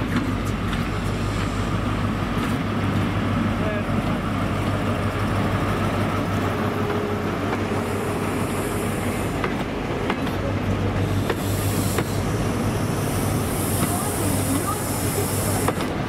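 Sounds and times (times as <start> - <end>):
diesel train droning: 0.0 - 16.0
train hissing: 0.6 - 16.0.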